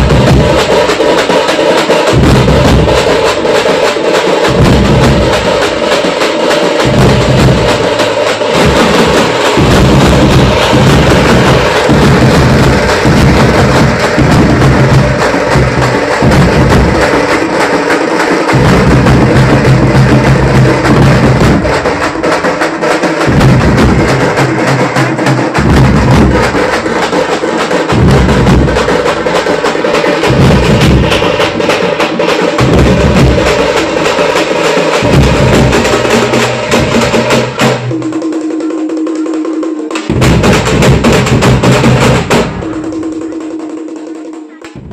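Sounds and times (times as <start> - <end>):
frame drums played fast: 0.0 - 44.9.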